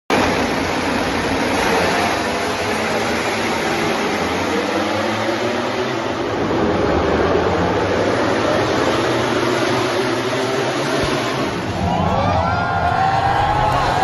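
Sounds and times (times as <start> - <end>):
racing motorcycle engines at high revs: 0.1 - 11.9.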